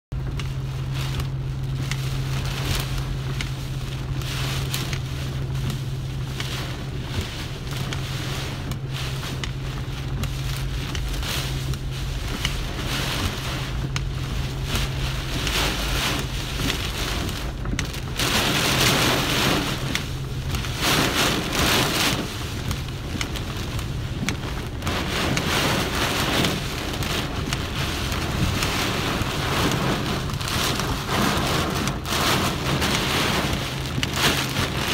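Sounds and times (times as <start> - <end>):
heavy rain on car roof: 0.1 - 34.9
low hum: 0.1 - 34.9.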